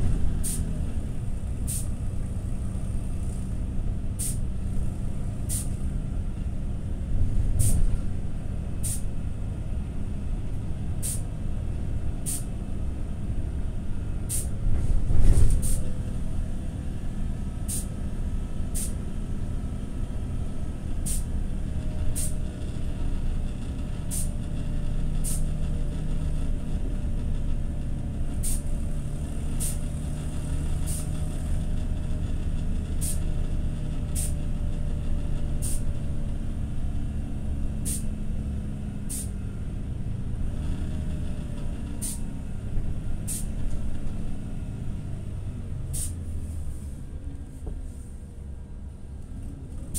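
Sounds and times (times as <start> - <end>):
bus engine low rumble: 0.0 - 49.9.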